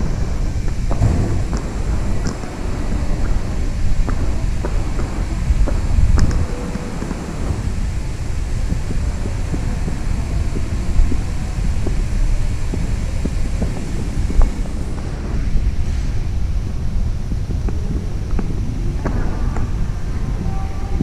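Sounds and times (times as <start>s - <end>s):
microphone handling noise: 0.0s - 21.0s
wind rumble on microphone: 0.0s - 21.0s.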